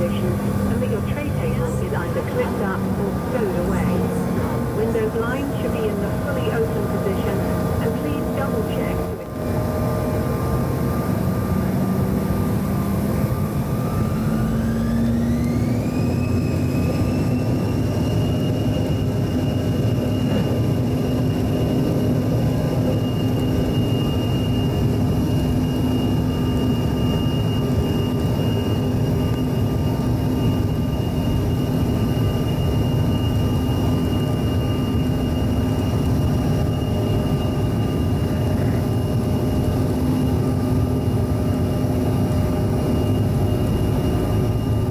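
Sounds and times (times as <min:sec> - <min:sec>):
jet engines spooling up whine: 0:00.0 - 0:44.9.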